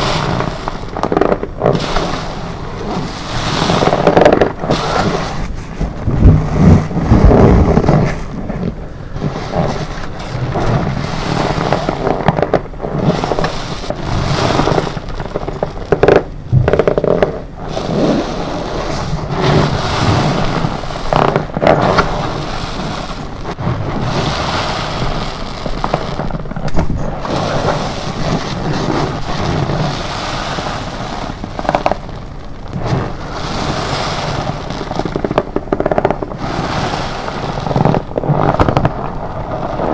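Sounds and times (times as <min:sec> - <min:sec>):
gloves rubbing and squeaking: 0:00.0 - 0:39.9
sponge squelching with foam: 0:00.0 - 0:39.9.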